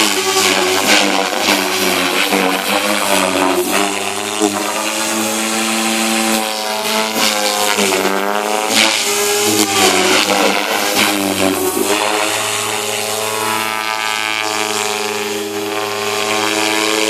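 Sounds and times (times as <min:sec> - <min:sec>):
model helicopter rotor buzz: 0:00.0 - 0:17.0.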